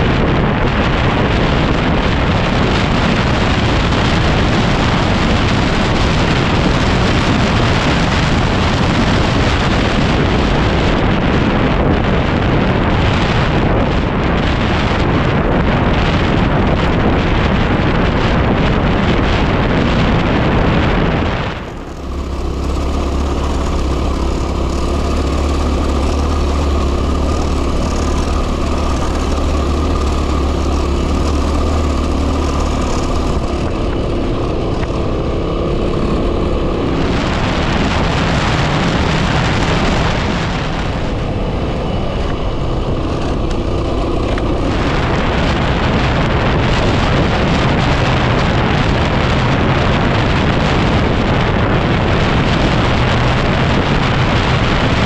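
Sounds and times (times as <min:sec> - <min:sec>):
dirt bike engine running: 0:00.0 - 0:55.0
wind buffeting microphone: 0:00.0 - 0:55.0.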